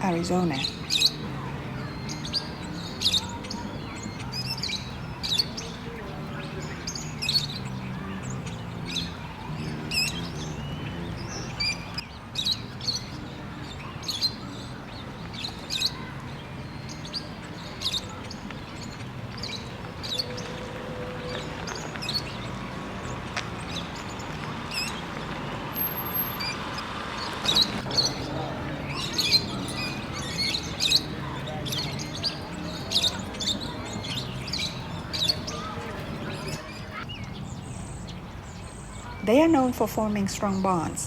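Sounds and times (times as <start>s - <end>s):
lovebirds chirping shrilly: 0.0s - 41.0s.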